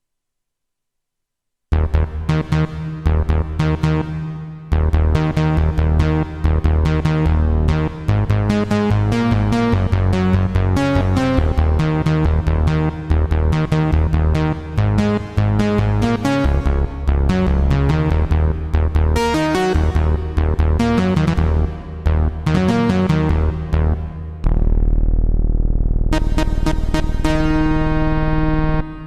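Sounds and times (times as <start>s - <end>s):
synthesizer notes over bass line: 1.7s - 29.0s.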